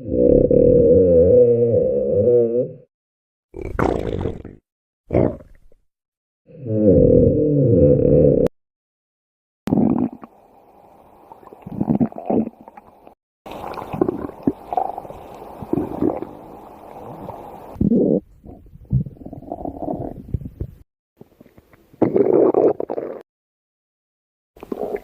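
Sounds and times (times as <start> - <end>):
stomach growling: 0.0 - 2.9, 3.6 - 5.8, 6.5 - 8.5, 9.7 - 10.4, 11.3 - 23.2, 24.6 - 25.0.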